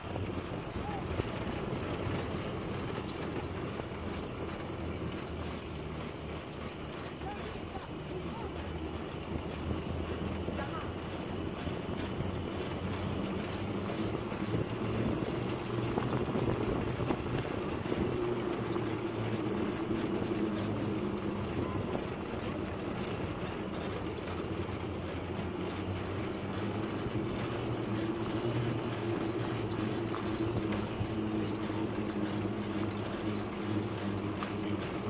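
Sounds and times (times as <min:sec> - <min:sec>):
motorcycle engine running: 0:00.0 - 0:35.0
road and wind noise: 0:00.0 - 0:35.0.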